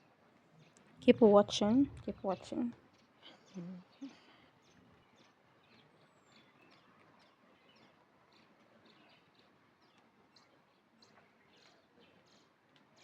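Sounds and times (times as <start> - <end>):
faint bird chirps: 2.0 - 13.0.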